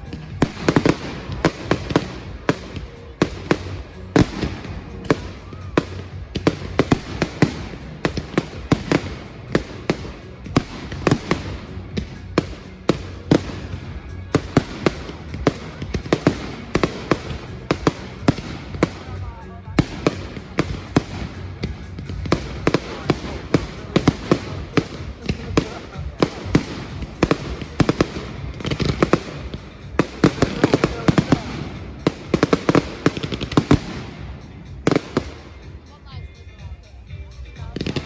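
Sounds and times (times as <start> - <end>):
fireworks bangs: 0.0 - 36.7.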